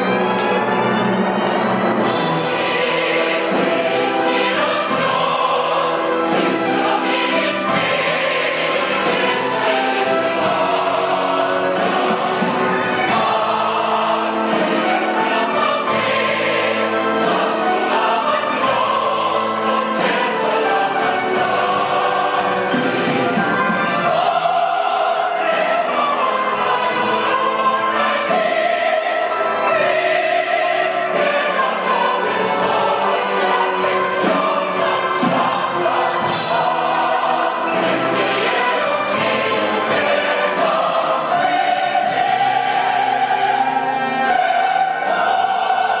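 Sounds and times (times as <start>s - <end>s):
chorus singing: 0.0s - 46.0s
orchestral accompaniment: 0.0s - 46.0s.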